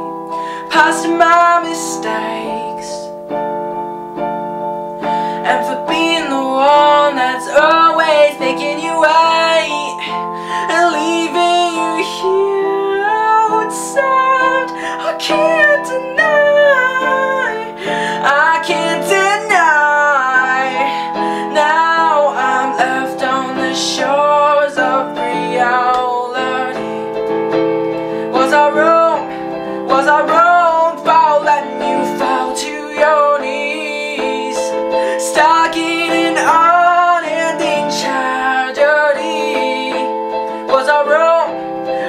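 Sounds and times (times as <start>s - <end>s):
person singing: 0.0s - 3.4s, 5.0s - 42.0s
piano and guitar accompaniment: 0.0s - 42.0s.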